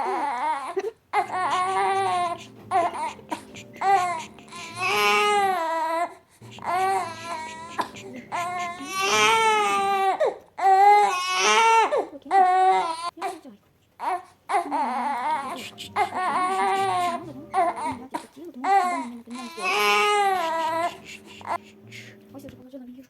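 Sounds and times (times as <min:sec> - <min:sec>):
baby crying: 0:00.0 - 0:13.4, 0:14.0 - 0:22.0.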